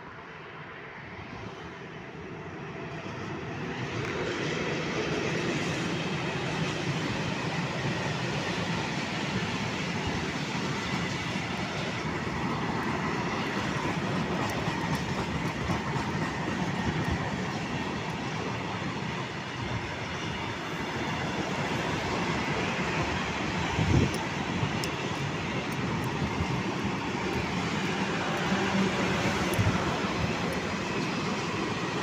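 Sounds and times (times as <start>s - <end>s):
freight train wheels rattling: 3.8s - 32.0s.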